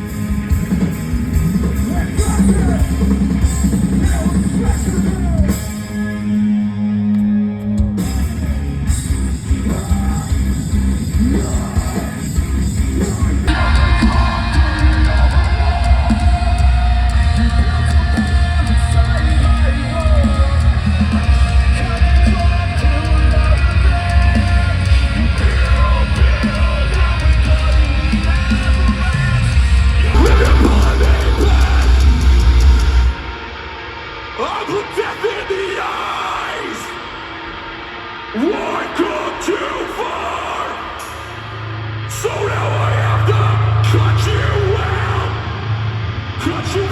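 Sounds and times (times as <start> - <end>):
heavy bass: 0.0 - 33.8, 41.0 - 46.9
distorted guitars: 0.0 - 46.9
drums: 0.0 - 46.9
yelled vocals: 1.5 - 33.5, 34.4 - 37.4, 38.3 - 46.9.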